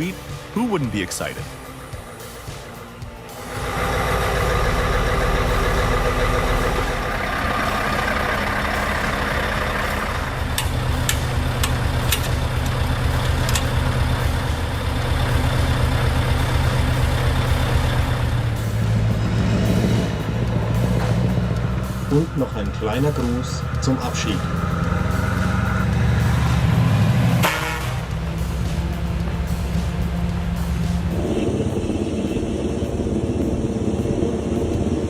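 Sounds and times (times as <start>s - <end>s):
truck diesel engine droning: 0.0s - 35.0s.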